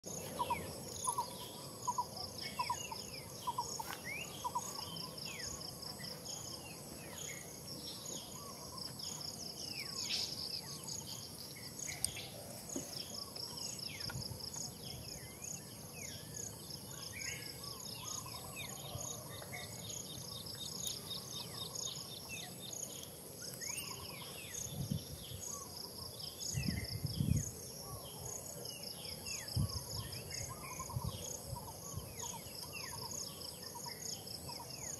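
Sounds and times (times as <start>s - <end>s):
birds chirping: 0.0s - 34.9s
insects trilling: 0.0s - 34.9s.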